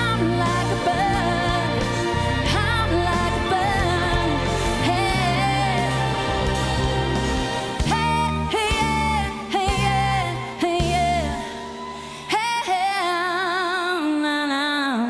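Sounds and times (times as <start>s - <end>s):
live pop band: 0.0s - 15.0s
woman singing: 0.0s - 15.0s.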